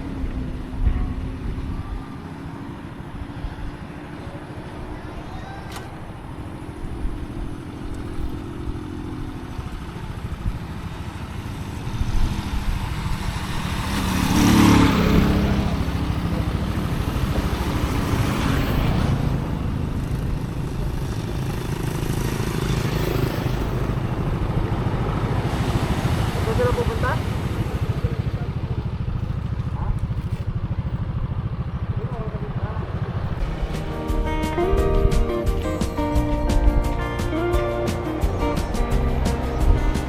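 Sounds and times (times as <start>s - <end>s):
vehicle engine low rumble: 0.0s - 40.0s
vehicle passing: 0.0s - 40.0s.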